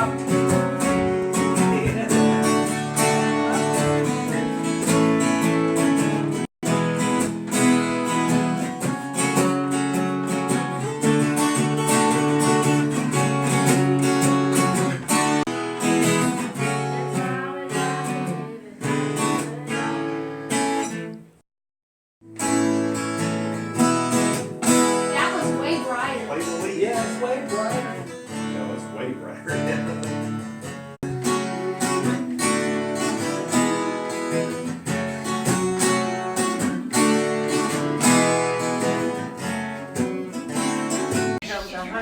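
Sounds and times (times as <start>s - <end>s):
acoustic guitar strummed and plucked: 0.0s - 21.4s, 22.2s - 42.0s.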